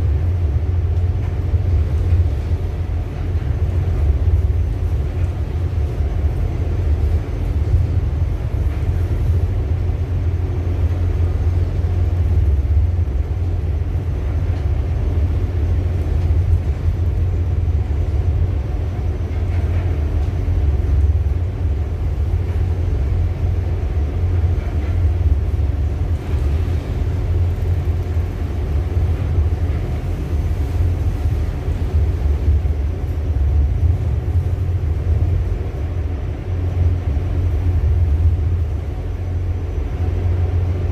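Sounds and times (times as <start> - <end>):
ship deep rumble: 0.0 - 40.9.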